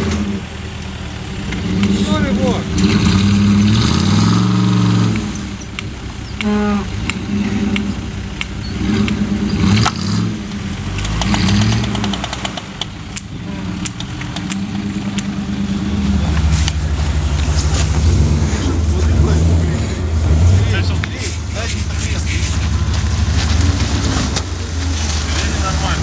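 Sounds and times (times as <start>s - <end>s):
suv engine revving: 0.0s - 26.0s.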